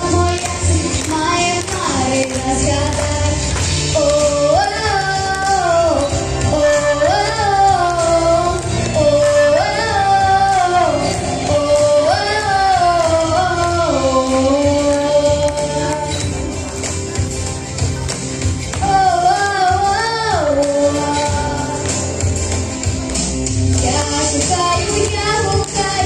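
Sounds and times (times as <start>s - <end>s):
girl singing into microphone: 0.0s - 17.3s, 18.5s - 23.0s, 23.8s - 26.0s.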